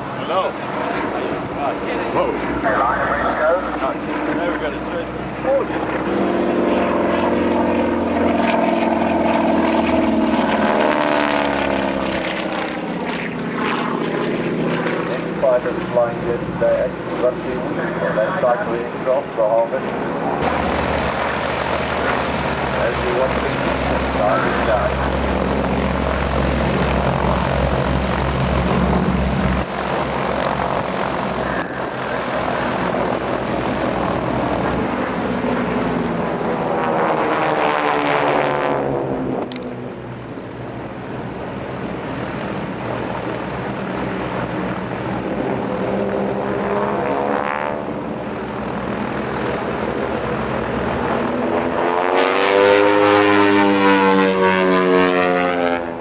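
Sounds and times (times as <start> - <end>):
propeller airplane passing: 0.0 - 56.0.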